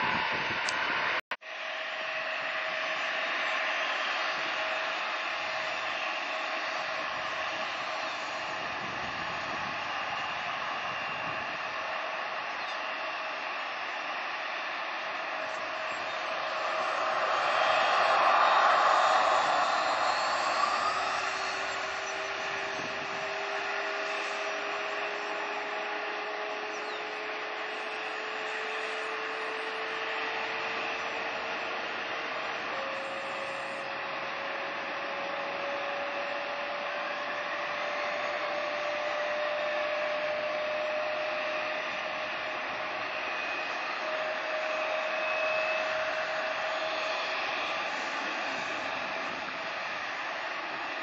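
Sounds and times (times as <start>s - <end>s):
jet engine whine rising: 0.0s - 51.0s
jet engines roaring: 0.0s - 51.0s.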